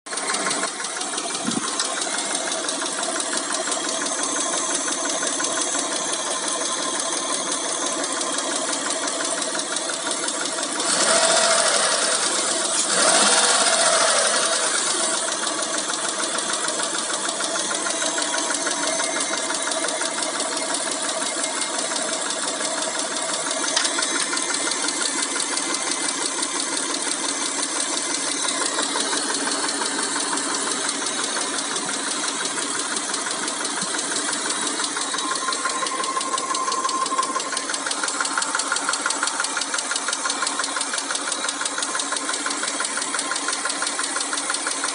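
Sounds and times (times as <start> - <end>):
engine revving: 0.1 - 44.9
engine running: 0.1 - 44.9
rapid ticking of engine lifters: 0.1 - 44.9.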